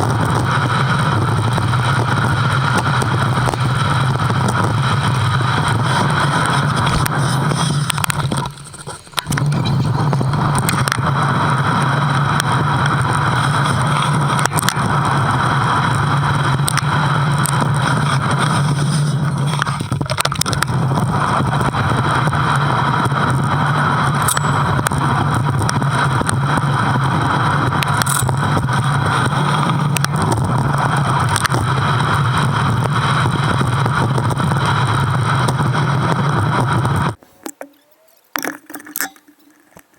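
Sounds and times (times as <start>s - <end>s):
vehicle running noise: 0.0s - 37.2s.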